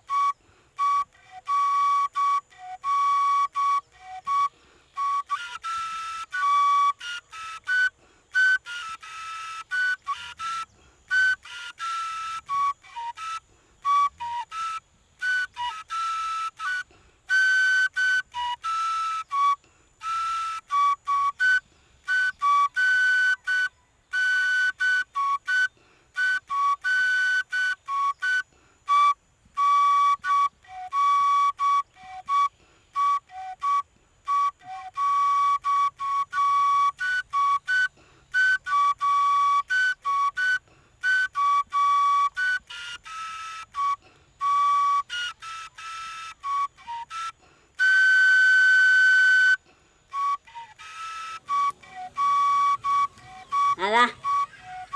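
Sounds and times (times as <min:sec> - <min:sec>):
cane flute playing a tune: 0:00.0 - 0:54.9.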